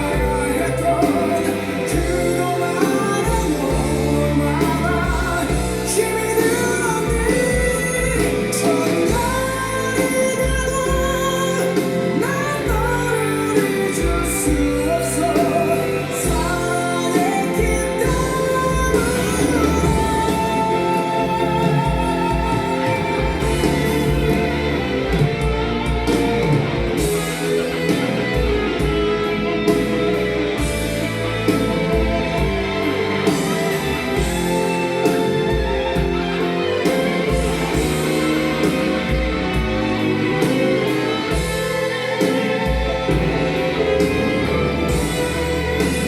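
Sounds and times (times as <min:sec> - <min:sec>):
guitar-led rock ballad over loudspeakers: 0:00.0 - 0:46.0.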